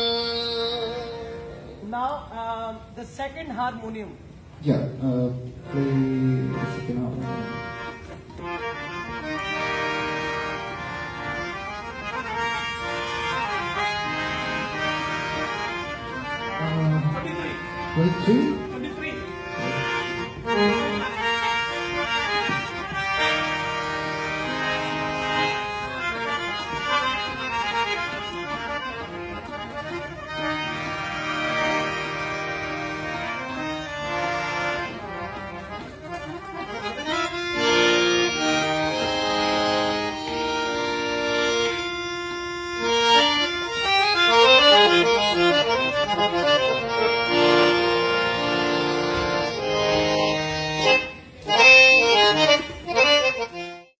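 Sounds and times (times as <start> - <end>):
harmonium playing: 0.0 - 54.0.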